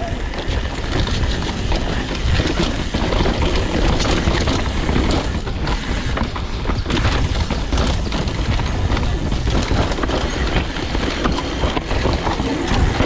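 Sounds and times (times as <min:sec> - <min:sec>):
bike rattling and knocking: 0:00.0 - 0:13.0
bike tyre noise: 0:00.0 - 0:13.0
wind rushing over microphone: 0:00.0 - 0:13.0.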